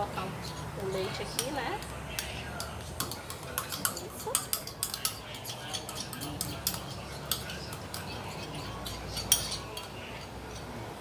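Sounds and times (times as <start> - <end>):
metal spoon stirring and scraping: 0.0 - 10.8
spoon clinking against pot: 0.4 - 10.7.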